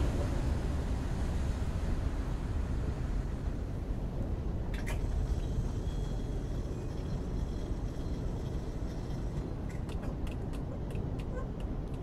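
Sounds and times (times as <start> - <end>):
outdoor rumble and hiss: 0.0 - 12.0.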